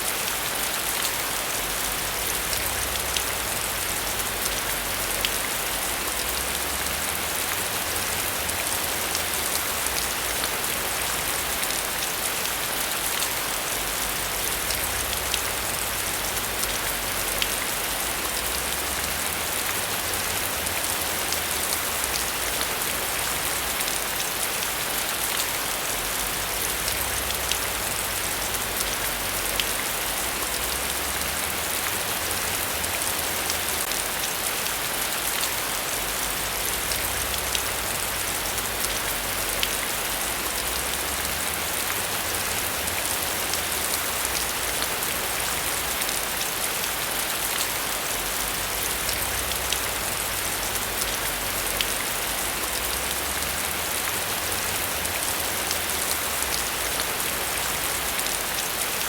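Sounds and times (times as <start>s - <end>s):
sharp ticks of raindrops: 0.0s - 59.0s.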